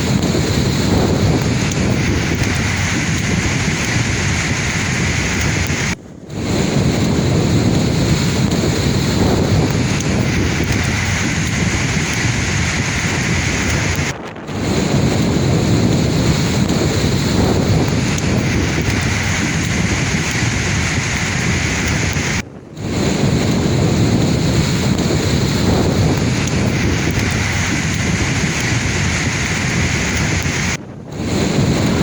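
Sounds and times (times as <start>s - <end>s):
sea waves washing on shore: 0.0s - 32.0s
wind buffeting microphone: 0.0s - 32.0s.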